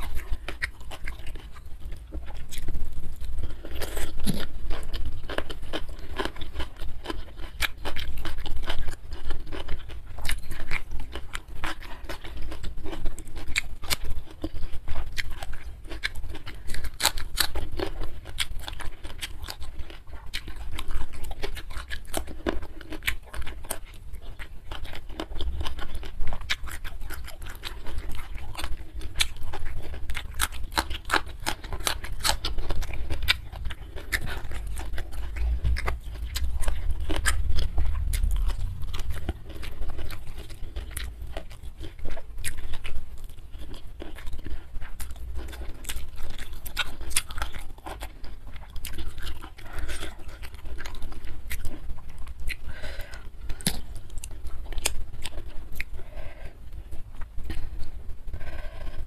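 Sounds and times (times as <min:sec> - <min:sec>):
chewing and crunching food: 0:00.0 - 0:59.0
low steady hum: 0:00.0 - 0:59.0.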